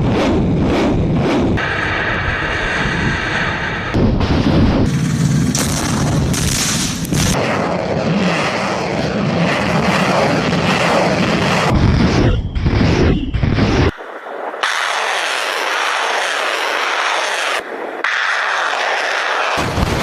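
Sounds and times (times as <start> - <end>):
turbine-like whine: 0.0 - 20.0.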